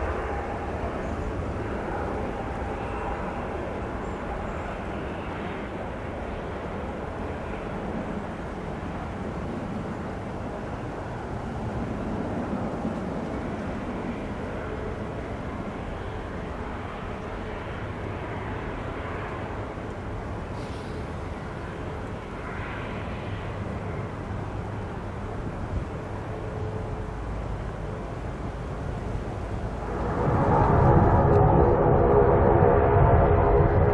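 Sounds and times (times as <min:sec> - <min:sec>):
turboprop airliner engine: 0:00.0 - 0:33.9.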